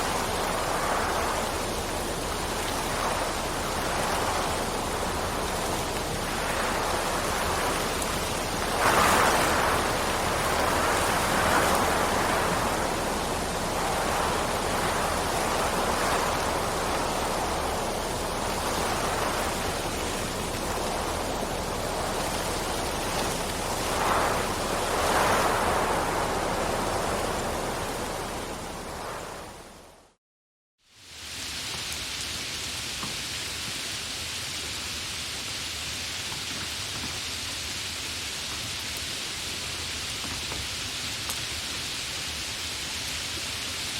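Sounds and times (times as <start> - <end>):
steady rain hiss: 0.0 - 30.2, 30.8 - 43.9.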